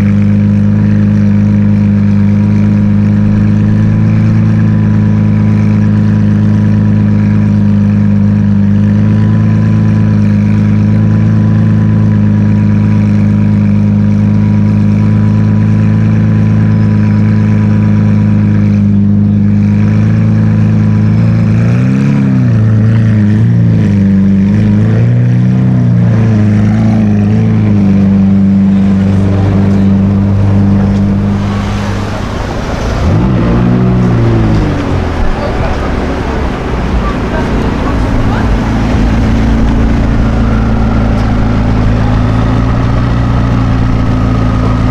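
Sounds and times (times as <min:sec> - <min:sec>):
sports car engine revving: 0:00.0 - 0:44.9.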